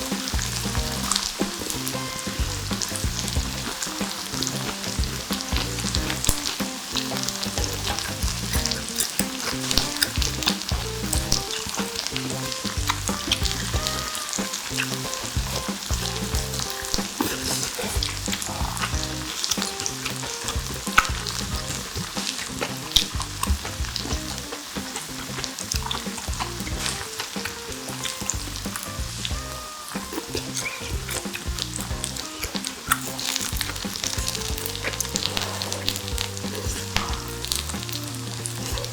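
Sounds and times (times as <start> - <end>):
meat sizzling in a pan: 0.0 - 38.9
sharp popping of grease: 0.0 - 38.9.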